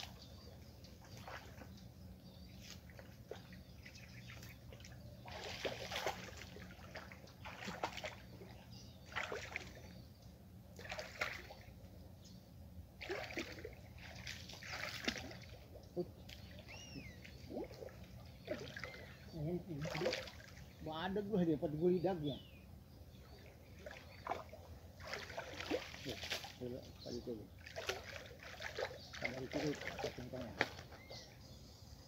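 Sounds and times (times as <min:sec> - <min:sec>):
person wading through water: 0:00.0 - 0:10.1, 0:10.7 - 0:11.9, 0:12.9 - 0:20.8, 0:23.2 - 0:31.4.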